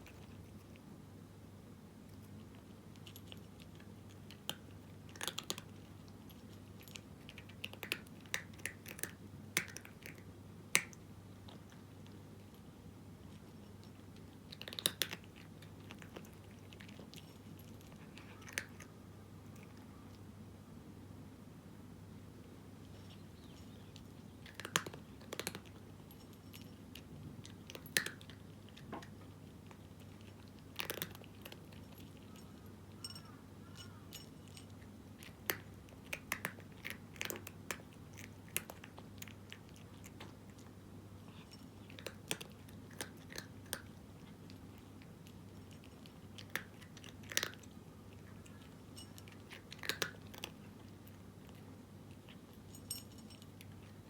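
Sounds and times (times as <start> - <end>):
cat crunching dry kibble: 0.0 - 0.9, 1.9 - 20.2, 22.8 - 54.0.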